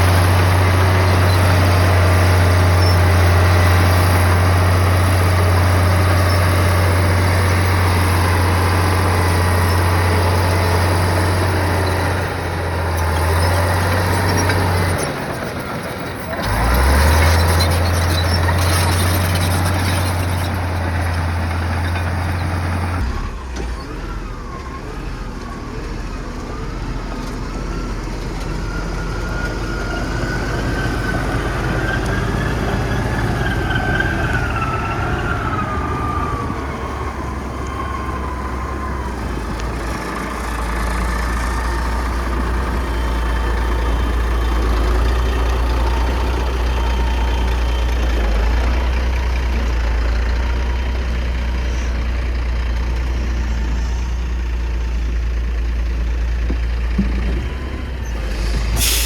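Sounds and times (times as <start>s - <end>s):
bulldozer diesel engine humming: 0.0s - 59.0s.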